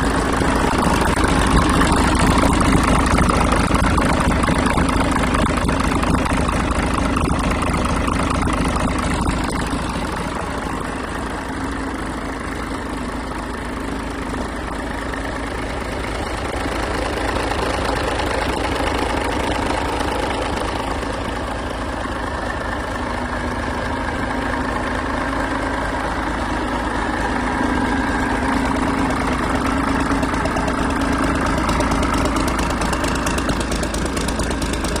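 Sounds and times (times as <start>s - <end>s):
marine diesel engine idling: 0.0s - 35.0s.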